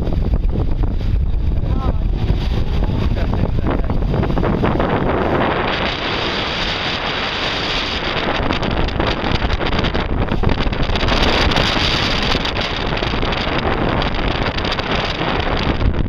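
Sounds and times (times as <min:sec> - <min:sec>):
motorboat running: 0:00.0 - 0:16.0
rough sea rushing: 0:00.0 - 0:16.0
wind buffeting microphone: 0:00.0 - 0:16.0.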